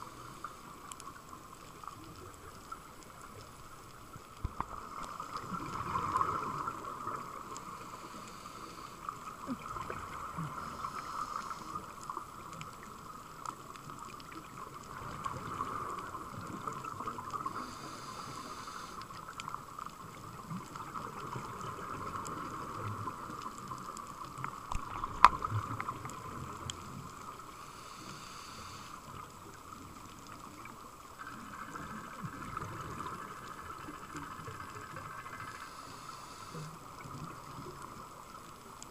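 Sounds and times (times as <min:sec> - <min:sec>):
muffled underwater hiss and hum: 0:00.0 - 0:38.9
scuba exhaust bubbles: 0:00.0 - 0:38.9.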